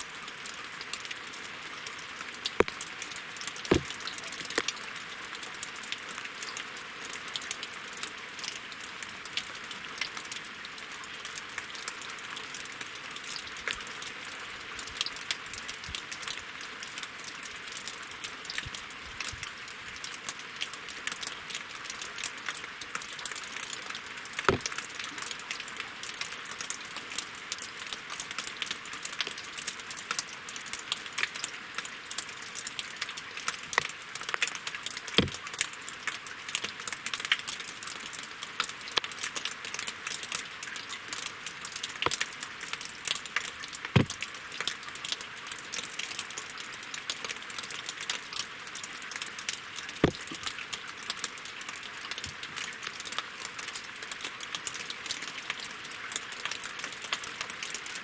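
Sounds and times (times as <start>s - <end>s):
rain pattering on water: 0.0s - 58.0s
heavy drips: 0.4s - 6.6s, 15.0s - 27.4s, 28.1s - 58.0s.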